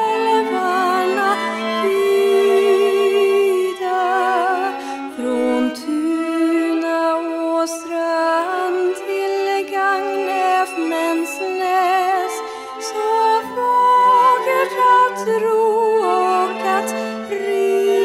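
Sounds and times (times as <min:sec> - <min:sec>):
cello: 0:00.0 - 0:18.0
violin: 0:00.0 - 0:18.0
woman singing: 0:00.0 - 0:18.0.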